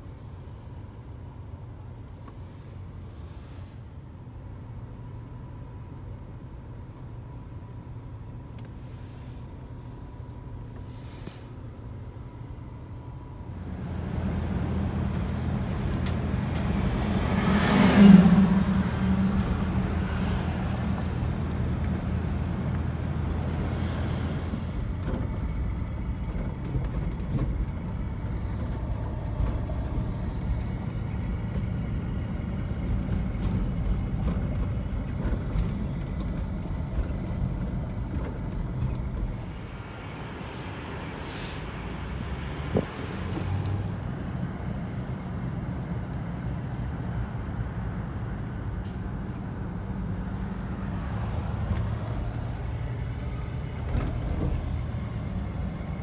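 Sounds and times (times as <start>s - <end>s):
car engine and road hum: 0.0s - 56.0s
traffic noise: 0.0s - 56.0s.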